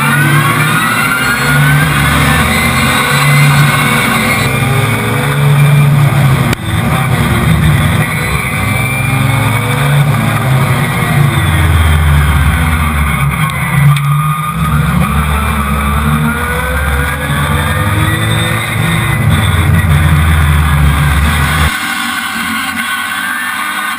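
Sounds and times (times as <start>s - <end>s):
race car engine revving: 0.0s - 23.9s.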